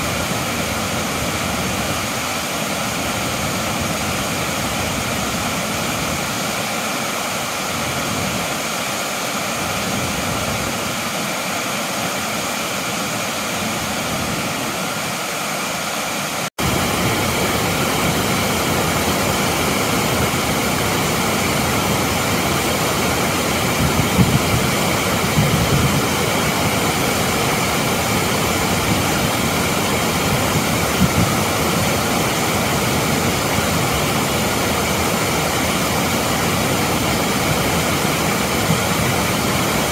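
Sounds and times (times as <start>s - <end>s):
creek water running over stones: 0.0s - 39.9s
waterfalls rushing: 0.0s - 39.9s.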